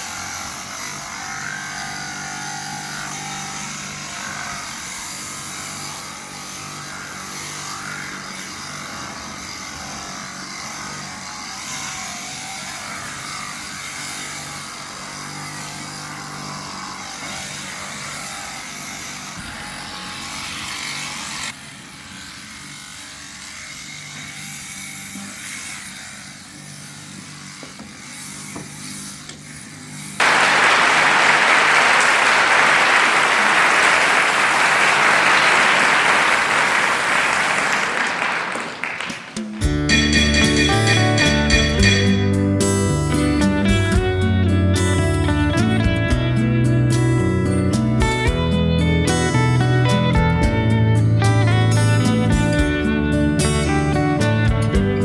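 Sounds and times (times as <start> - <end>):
electric shearing machine humming: 0.0 - 31.2, 39.4 - 55.0.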